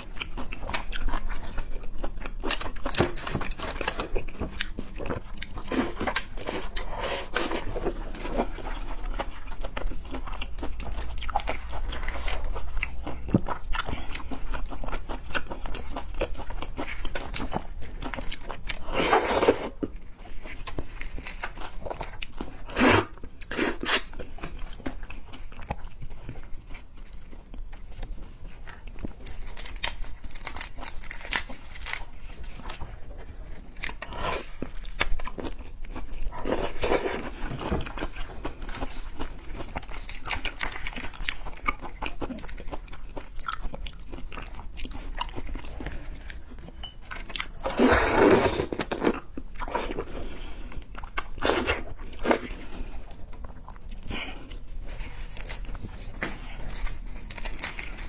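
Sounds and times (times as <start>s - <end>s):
person chewing seafood: 0.0s - 58.0s.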